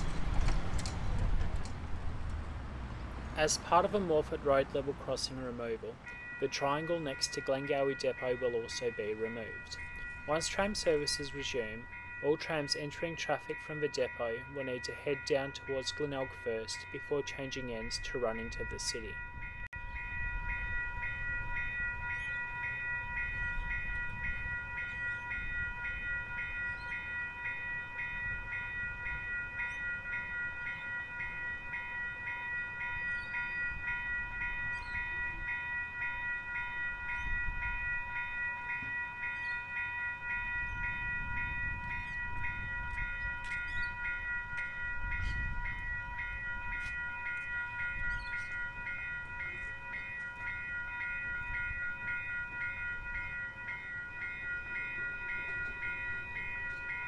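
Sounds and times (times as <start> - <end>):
tram rumbling: 0.0 - 57.0
level crossing bells dinging: 3.4 - 57.0.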